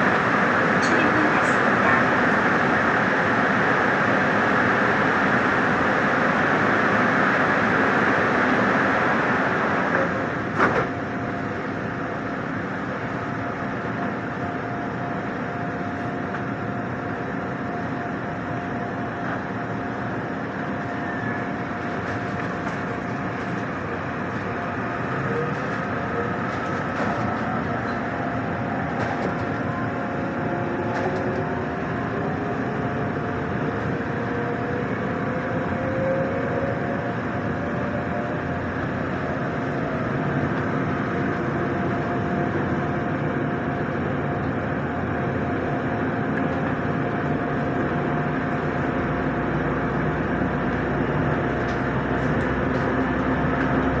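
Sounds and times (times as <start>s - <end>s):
steady train hum: 0.0s - 54.0s.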